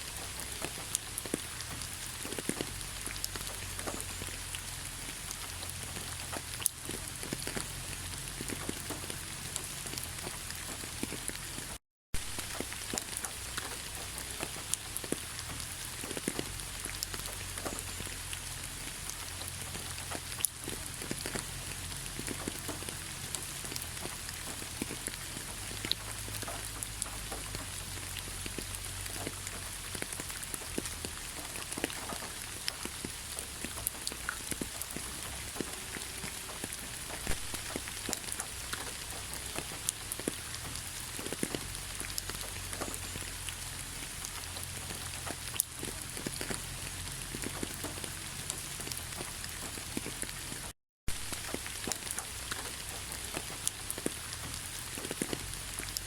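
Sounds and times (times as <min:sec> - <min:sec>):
heavy rain hiss: 0:00.0 - 0:56.0
raindrops clicking: 0:00.0 - 0:56.0.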